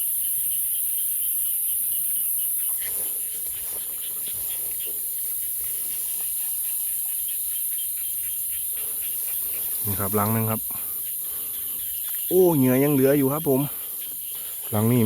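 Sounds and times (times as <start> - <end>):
faint rapid chirping: 0.0 - 15.0
insects chorus: 0.0 - 15.0.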